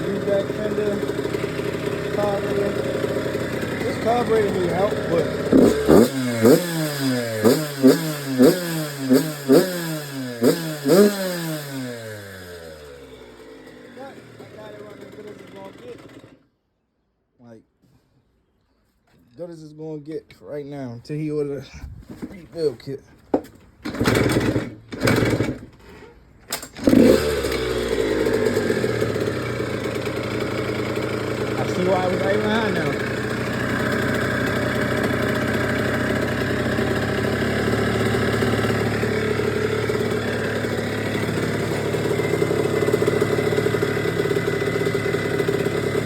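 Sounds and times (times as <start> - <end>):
dirt bike engine revving: 0.0 - 16.4, 24.0 - 25.7, 26.8 - 46.0.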